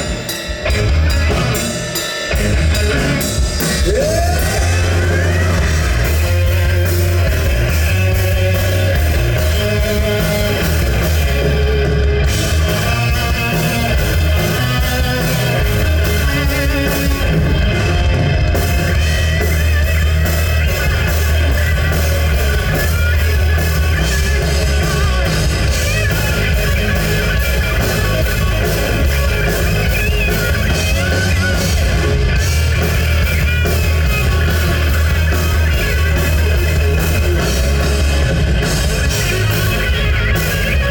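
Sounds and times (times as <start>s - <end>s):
rock band playing heavy metal: 0.0s - 40.9s.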